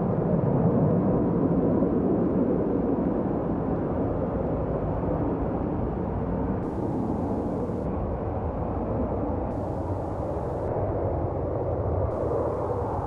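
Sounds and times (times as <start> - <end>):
jet aircraft engines: 0.0 - 13.0.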